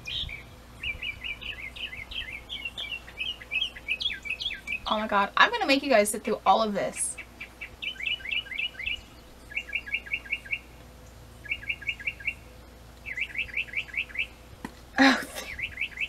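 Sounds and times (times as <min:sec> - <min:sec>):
small bird chirping: 0:00.0 - 0:05.1, 0:07.1 - 0:14.4, 0:15.4 - 0:16.0.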